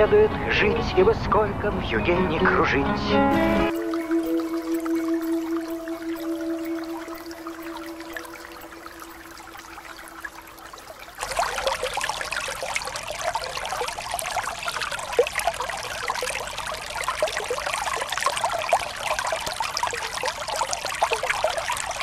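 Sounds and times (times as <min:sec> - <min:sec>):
brook babbling over stones: 0:03.6 - 0:22.0.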